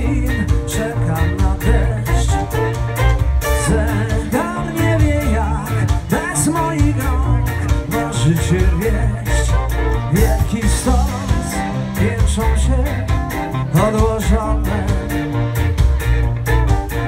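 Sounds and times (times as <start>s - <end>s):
live folk-rock band: 0.0s - 17.0s
steady drum beat: 0.0s - 17.0s.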